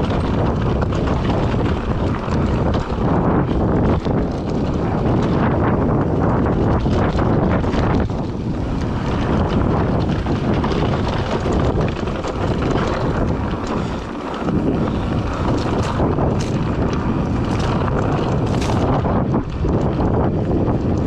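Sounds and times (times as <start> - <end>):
mountain bike rattling on dirt trail: 0.0 - 21.0
wind buffeting microphone: 0.0 - 21.0.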